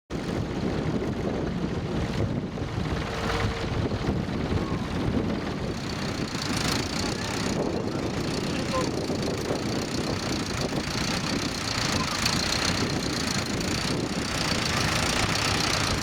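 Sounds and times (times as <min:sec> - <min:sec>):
strong wind buffeting microphone: 0:00.1 - 0:16.0.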